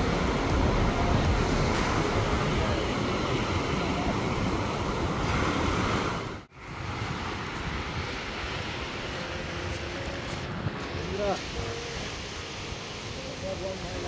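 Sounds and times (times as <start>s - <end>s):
ocean surf breaking on sand: 0.0s - 14.0s.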